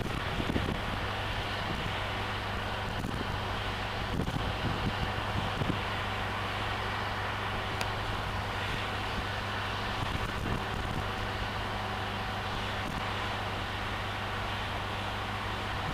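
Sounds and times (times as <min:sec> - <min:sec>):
train engine drone: 0:00.0 - 0:15.9.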